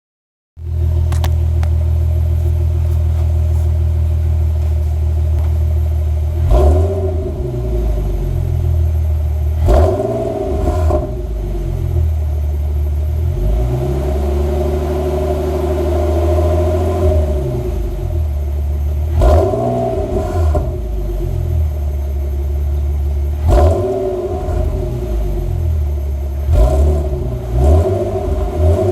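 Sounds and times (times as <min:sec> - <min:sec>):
car engine idling and revving: 0:00.6 - 0:28.9.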